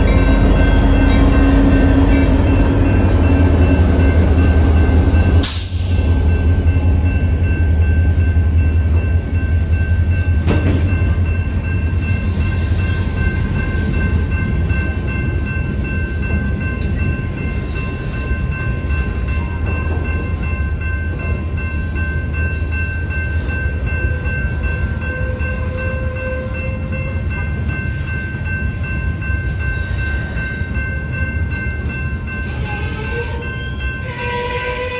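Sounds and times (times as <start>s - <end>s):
crossing warning bell: 0.0s - 34.9s
freight train rumbling: 0.0s - 34.9s
train clank: 0.0s - 34.9s.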